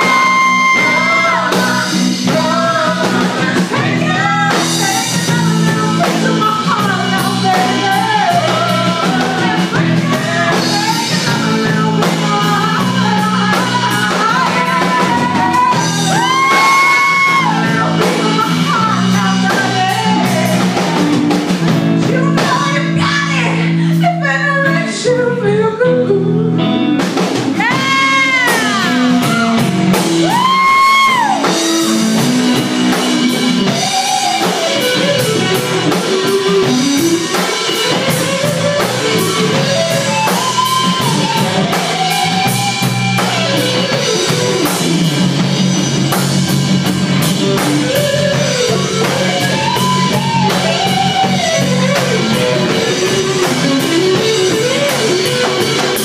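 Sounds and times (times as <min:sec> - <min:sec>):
electric guitar solo: 0:00.0 - 0:24.8, 0:25.8 - 0:56.0
drum kit: 0:00.0 - 0:25.1, 0:26.5 - 0:56.0
bass guitar: 0:00.0 - 0:56.0.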